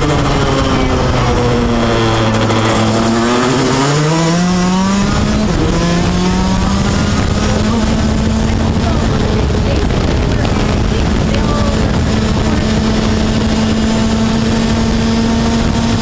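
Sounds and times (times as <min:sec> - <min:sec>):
kart engine revving: 0:00.0 - 0:16.0.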